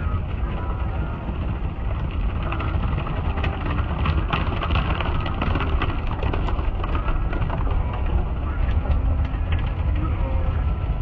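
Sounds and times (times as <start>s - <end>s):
car wash low rumble: 0.0s - 11.0s.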